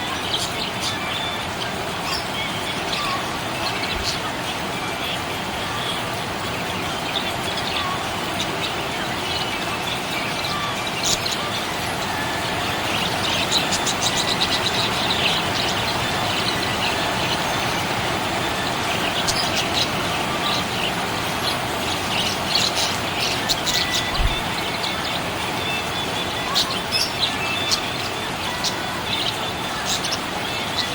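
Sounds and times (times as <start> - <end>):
parrots chirping: 0.0 - 30.9
steady background noise: 0.0 - 30.9.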